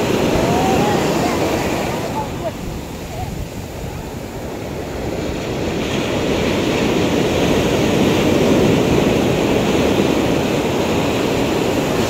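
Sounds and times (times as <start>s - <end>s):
wave breaking at shoreline: 0.0s - 12.0s.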